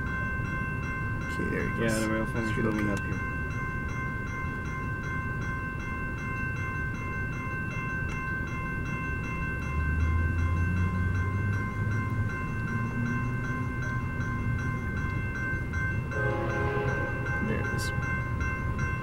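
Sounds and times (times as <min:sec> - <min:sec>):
crossing bell ringing: 0:00.0 - 0:19.0.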